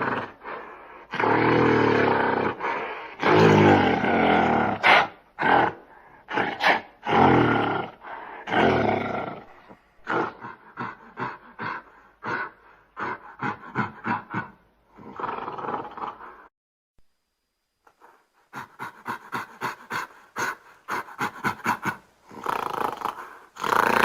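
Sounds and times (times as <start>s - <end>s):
gorilla grunting: 0.0s - 16.5s, 18.5s - 24.0s
gorilla roaring: 0.0s - 16.5s, 18.5s - 24.0s.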